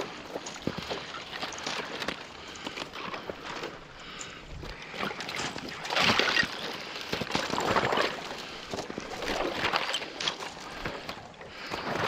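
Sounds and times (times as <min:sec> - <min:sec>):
water sloshing: 0:00.0 - 0:12.0.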